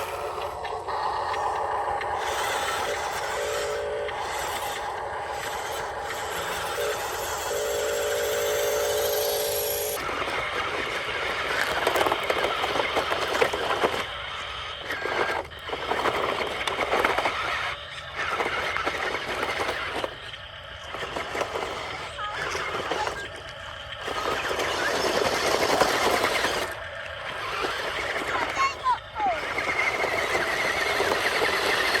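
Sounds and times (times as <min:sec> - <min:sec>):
small electric motor whining: 0:00.0 - 0:32.0.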